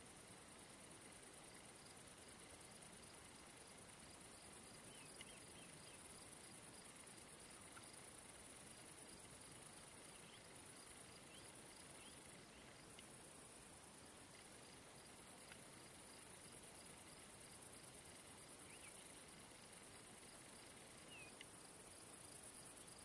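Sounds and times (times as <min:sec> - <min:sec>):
low pulsing insect call: 0:00.0 - 0:23.0
crickets trilling: 0:00.4 - 0:23.0.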